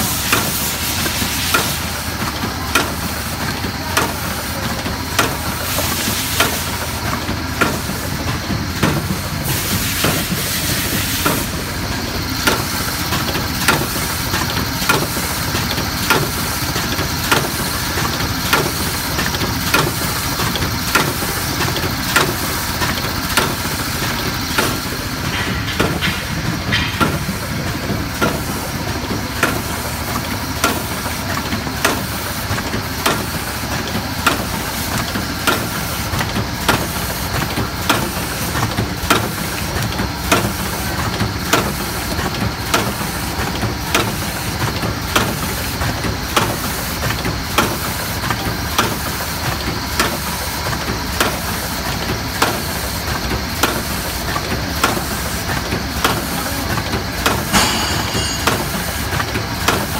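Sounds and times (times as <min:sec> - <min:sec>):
machine running: 0:00.0 - 0:59.9
sharp machine clacks: 0:00.0 - 0:59.9.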